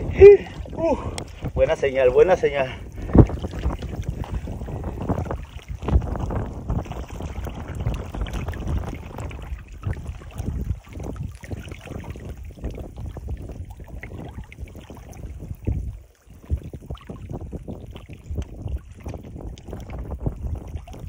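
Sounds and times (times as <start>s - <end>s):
water lapping against rocks: 0.0s - 21.0s
wind rumbling on microphone: 0.0s - 21.0s.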